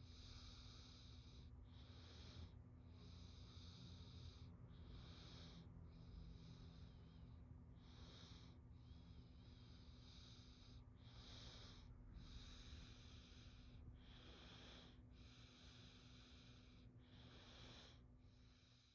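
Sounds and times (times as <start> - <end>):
child breathing softly: 0.0 - 18.9.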